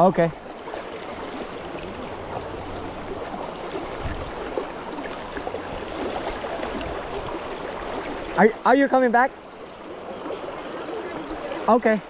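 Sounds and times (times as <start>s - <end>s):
fast river current rushing: 0.0s - 12.0s.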